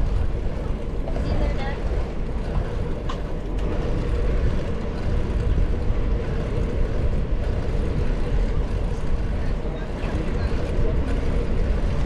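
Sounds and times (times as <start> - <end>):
bicycle rolling noise: 0.0 - 12.0
wind rumbling on microphone: 0.0 - 12.0.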